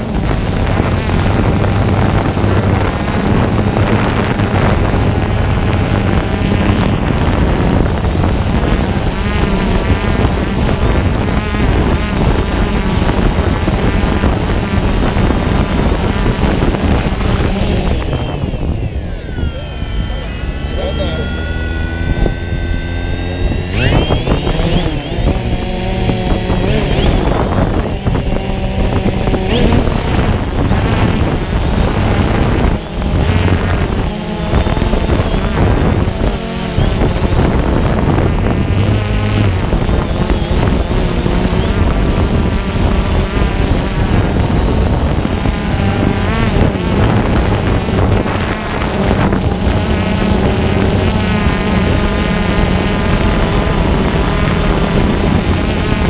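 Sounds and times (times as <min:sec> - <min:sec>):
drone motors whirring: 0:00.0 - 0:56.0.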